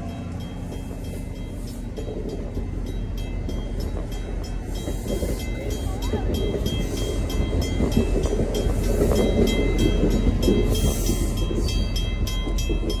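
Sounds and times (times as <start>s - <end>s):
rhythmic rail clicks: 0.0s - 13.0s
train wheels rumbling on rails: 0.0s - 13.0s.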